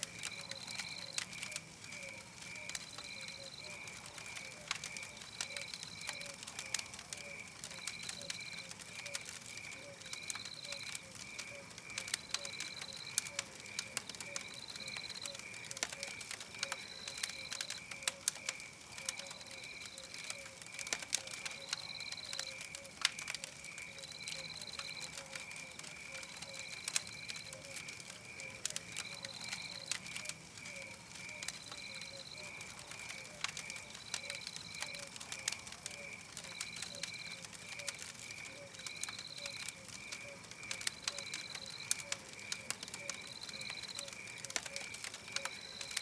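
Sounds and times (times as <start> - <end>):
campfire crackling and popping: 0.0 - 46.0
pulsing night chirps: 0.0 - 46.0.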